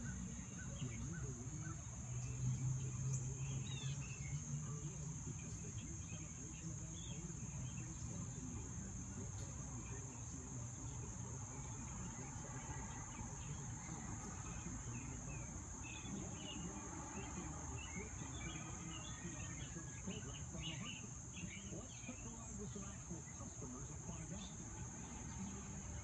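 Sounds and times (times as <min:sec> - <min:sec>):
crickets chorus: 0:00.0 - 0:26.0.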